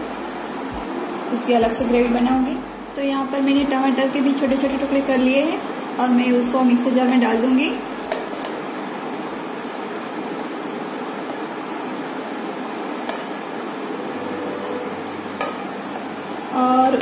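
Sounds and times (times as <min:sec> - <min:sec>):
steady rushing fan noise: 0:00.0 - 0:17.0.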